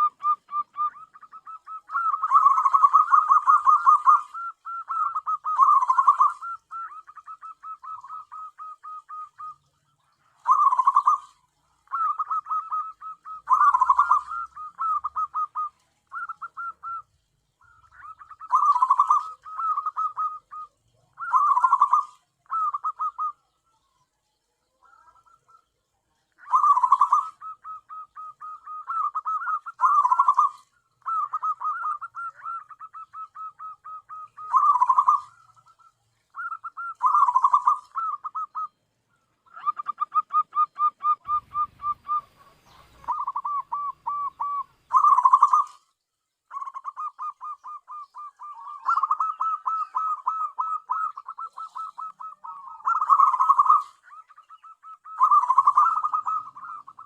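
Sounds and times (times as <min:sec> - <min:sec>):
dove cooing: 0:00.0 - 0:24.0, 0:24.7 - 0:45.9, 0:46.5 - 0:57.0.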